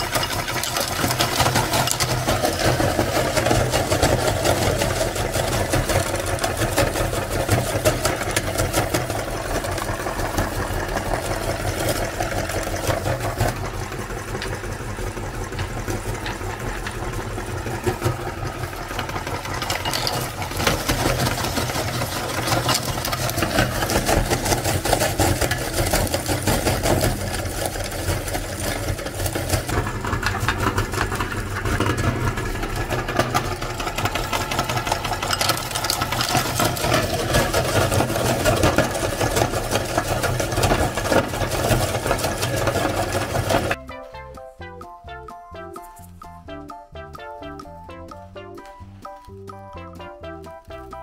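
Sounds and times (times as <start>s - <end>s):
meat grinder motor hum: 0.0s - 43.8s.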